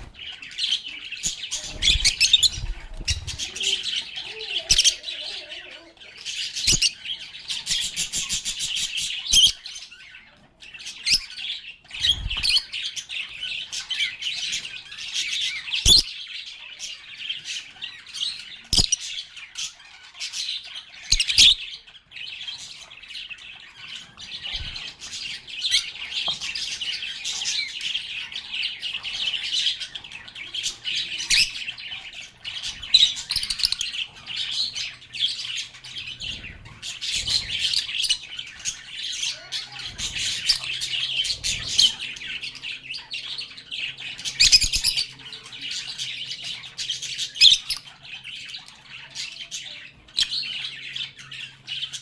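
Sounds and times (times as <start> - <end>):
lovebirds chirping: 0.0 - 52.0.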